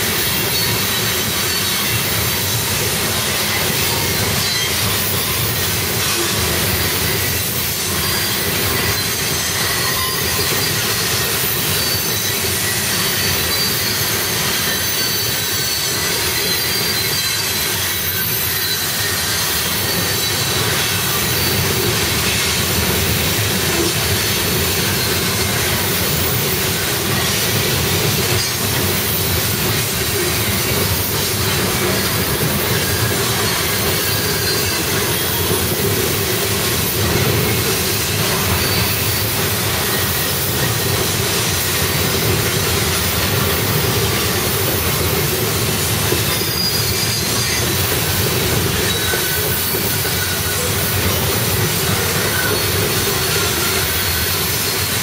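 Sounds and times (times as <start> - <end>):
steel train wheels on rail: 0.0 - 55.0
high-pitched wheel squeal: 3.3 - 35.9, 37.0 - 55.0.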